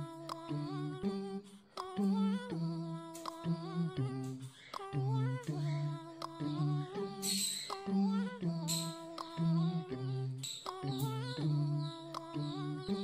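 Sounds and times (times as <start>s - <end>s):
hummed vocal melody: 0.0s - 13.0s.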